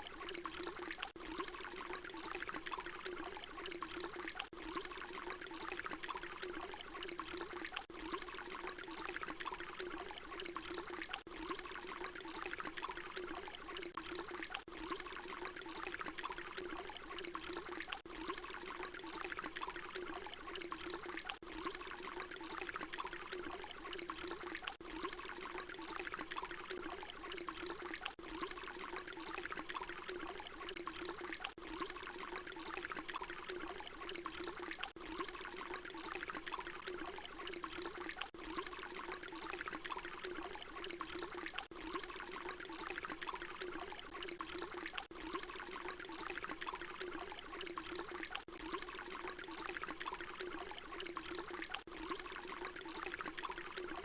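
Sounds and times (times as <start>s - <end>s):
water pouring: 0.0s - 54.0s.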